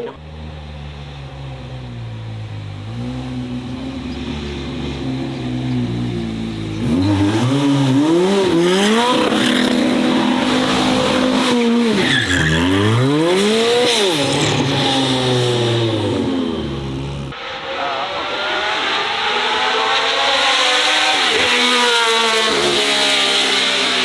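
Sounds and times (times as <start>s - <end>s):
race car engine revving: 2.7s - 24.0s.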